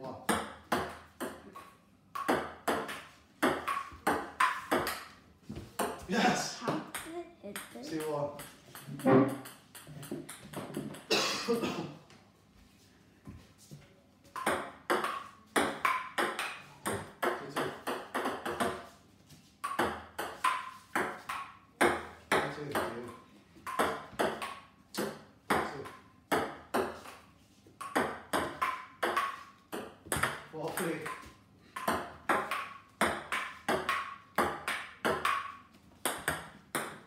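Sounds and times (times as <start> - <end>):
ping-pong ball bouncing on table: 0.3 - 5.1, 5.8 - 6.0, 6.7 - 11.1, 14.3 - 18.9, 19.6 - 27.1, 27.8 - 37.0
paddles hitting ping-pong ball: 0.3 - 11.1, 14.3 - 19.0, 19.6 - 37.0.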